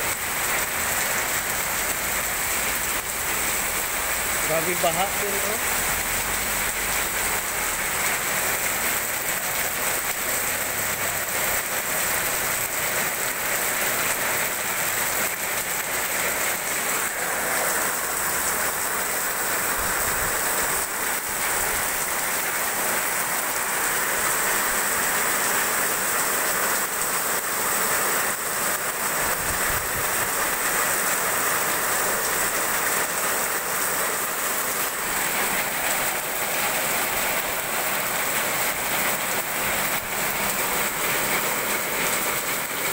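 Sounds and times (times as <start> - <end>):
heavy rain on street: 0.0 - 42.9.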